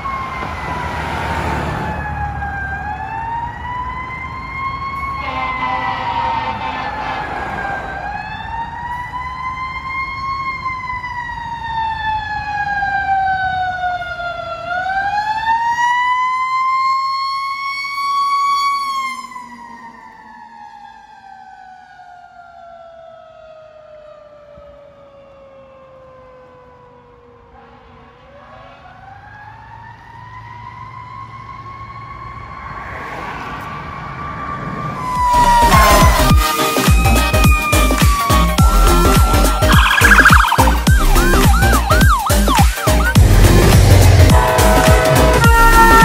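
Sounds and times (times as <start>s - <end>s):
mechanical siren wailing: 1.7s - 27.6s, 34.0s - 46.0s.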